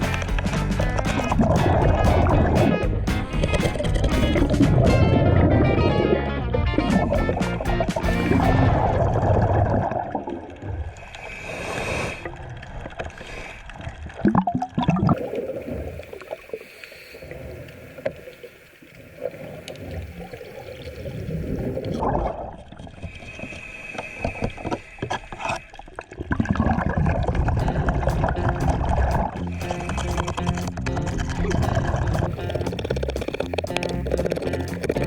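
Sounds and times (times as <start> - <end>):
underwater bubbling: 0.0 - 6.2, 6.9 - 35.0.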